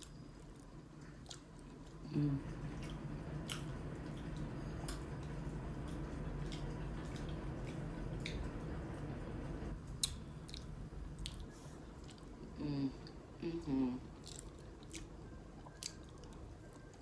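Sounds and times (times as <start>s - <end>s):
wet chewing mouth sounds: 0.0s - 8.5s, 10.0s - 13.2s, 14.1s - 17.0s
low background rumble: 0.0s - 17.0s.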